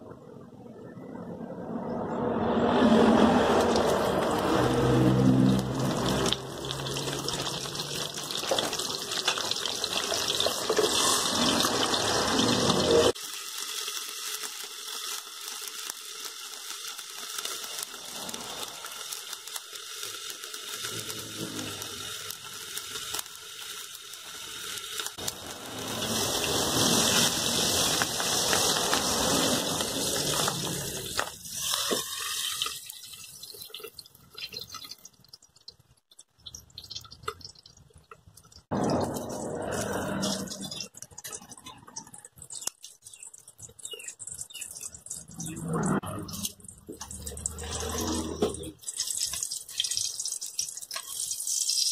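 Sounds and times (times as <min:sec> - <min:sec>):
fish frying in hot oil: 0:03.2 - 0:51.9.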